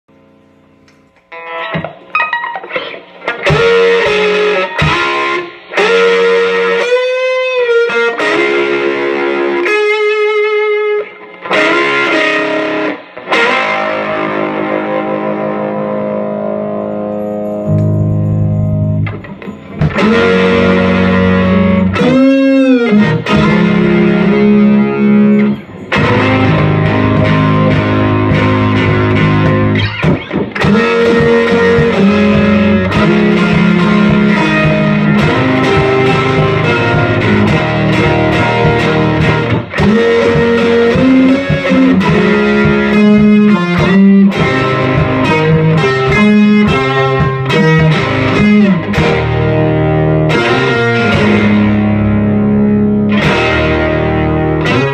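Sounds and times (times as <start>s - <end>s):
electric guitar riff: 0.1s - 54.9s.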